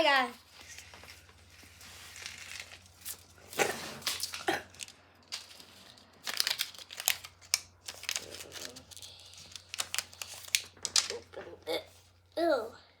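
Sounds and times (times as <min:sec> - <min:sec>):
crinkly packaging rustling: 0:00.1 - 0:12.2.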